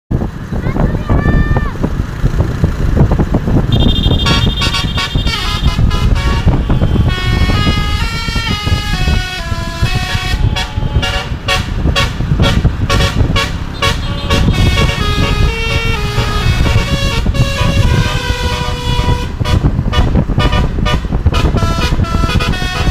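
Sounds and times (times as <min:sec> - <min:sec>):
steady low rumble: 0:00.1 - 0:22.9
multi-trumpet air horn tune: 0:03.7 - 0:22.9.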